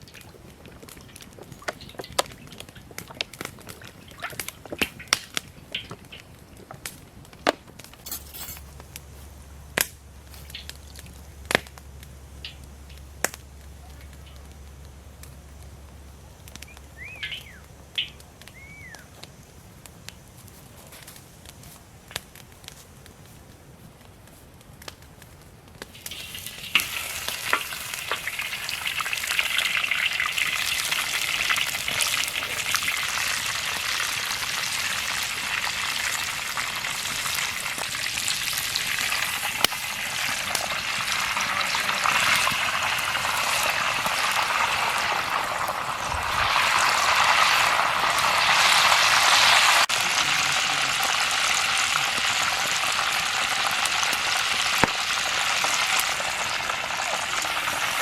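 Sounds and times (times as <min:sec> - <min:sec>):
food frying in hot oil: 0:00.0 - 0:19.1, 0:25.9 - 0:58.0.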